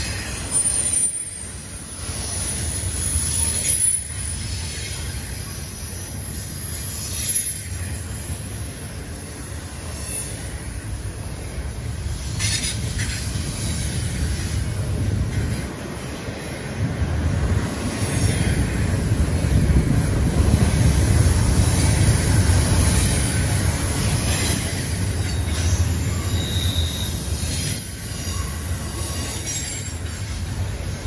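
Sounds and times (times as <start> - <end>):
freight train wheels rumbling on rail: 0.0 - 31.0
train wheels squealing: 0.0 - 31.0.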